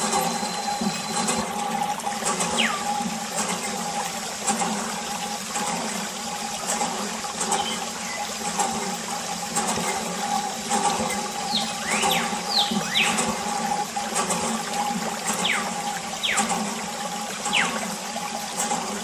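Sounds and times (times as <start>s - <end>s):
steady pump hum: 0.0s - 19.0s
water stream splashing on toys: 0.0s - 19.0s.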